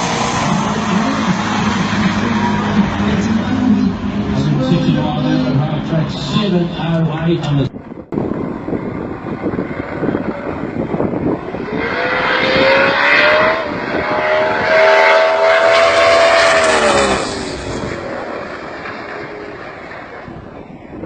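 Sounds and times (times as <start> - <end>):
drag car engine at full throttle: 0.0 - 7.5, 8.1 - 21.0.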